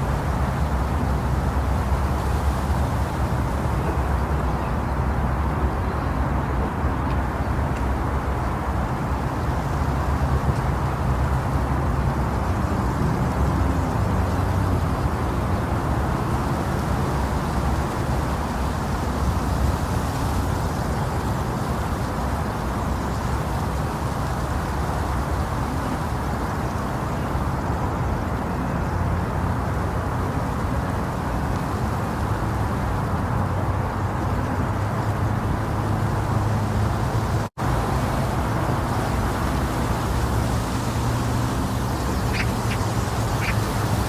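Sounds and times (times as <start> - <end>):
muffled white noise with low rumble: 0.0 - 44.0.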